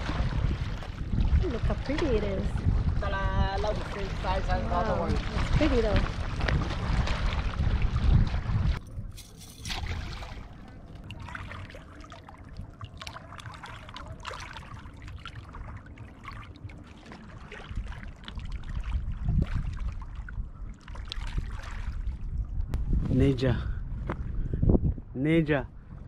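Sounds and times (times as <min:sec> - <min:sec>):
wind rumble on microphone: 0:00.0 - 0:11.7, 0:13.3 - 0:26.0.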